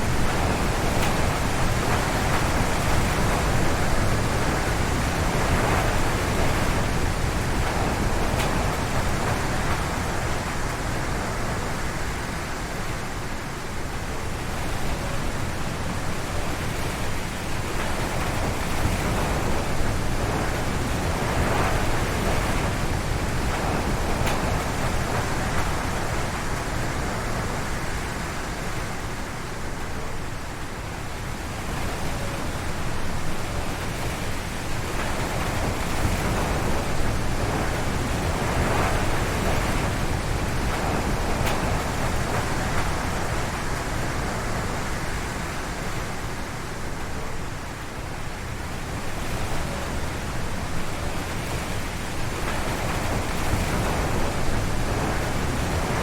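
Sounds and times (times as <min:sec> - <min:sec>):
strong wind gusting through trees: 0:00.0 - 0:56.0.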